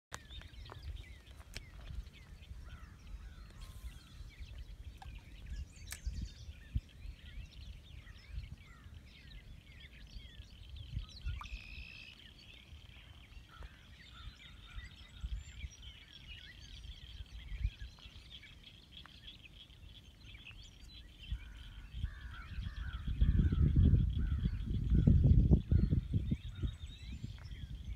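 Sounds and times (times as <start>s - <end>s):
wild birds chirping: 0.1s - 27.9s
wind rumbling on microphone: 0.1s - 27.9s.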